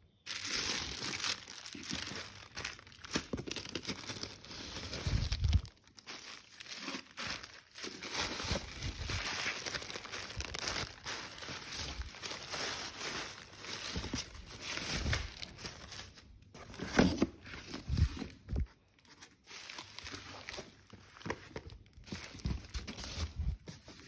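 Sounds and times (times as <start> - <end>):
packaging crinkling and tearing: 0.3 - 24.0.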